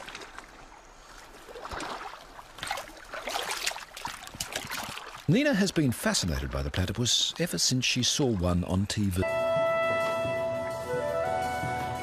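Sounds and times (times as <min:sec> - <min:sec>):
water splashing and sloshing: 0:00.0 - 0:10.4.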